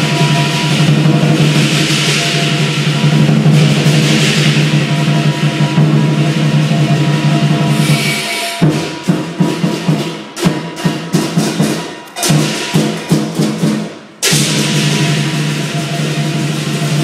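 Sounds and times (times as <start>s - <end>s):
cymbal clashes: 0.0s - 17.0s
drum strokes: 0.0s - 17.0s.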